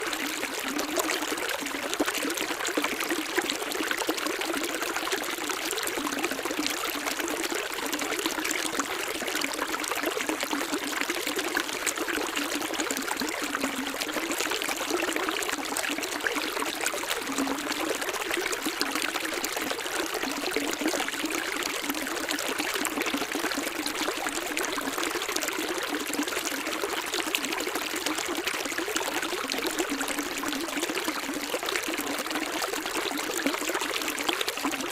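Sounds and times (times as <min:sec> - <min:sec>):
stream trickling and splashing: 0:00.0 - 0:34.9.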